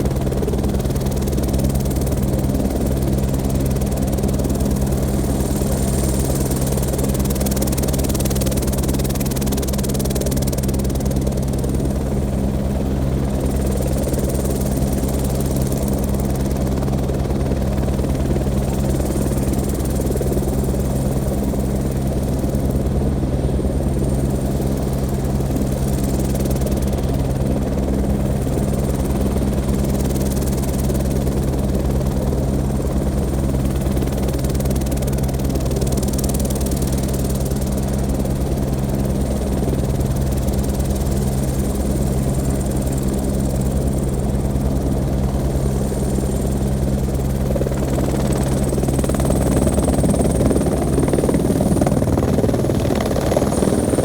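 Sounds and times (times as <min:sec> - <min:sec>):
helicopter rotor and engine hum: 0:00.0 - 0:54.0.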